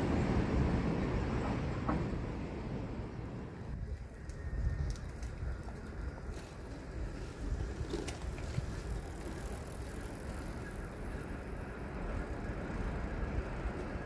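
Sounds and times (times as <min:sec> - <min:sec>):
freight train rolling rumble: 0:00.0 - 0:14.0.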